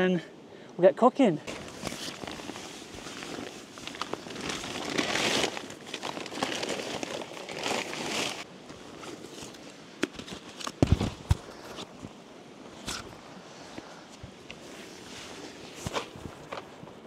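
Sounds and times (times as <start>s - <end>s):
nylon rustling and crinkling: 1.5s - 13.9s, 14.5s - 17.0s.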